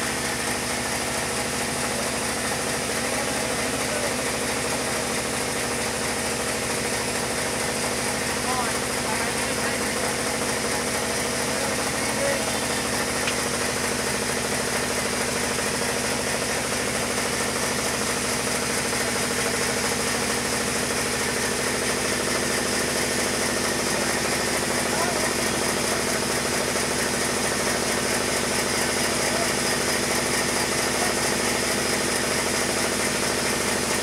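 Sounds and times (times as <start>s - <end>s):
band sawmill droning: 0.0s - 34.0s.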